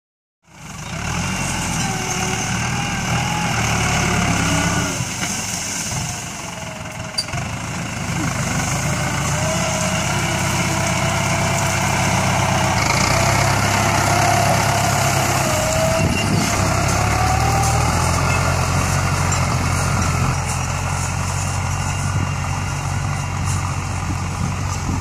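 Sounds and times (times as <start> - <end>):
tractor diesel engine under load: 0.4 - 25.0.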